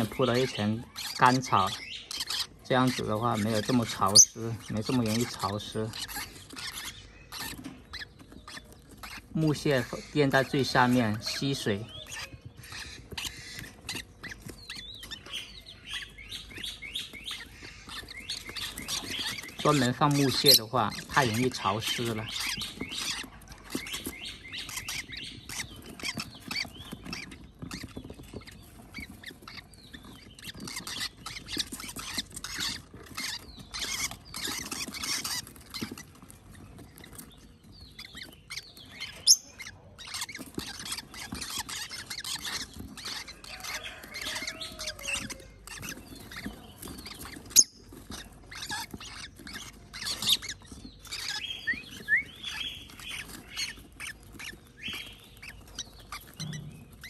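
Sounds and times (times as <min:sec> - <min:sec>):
parrot chicks squawking: 0:00.0 - 0:57.0.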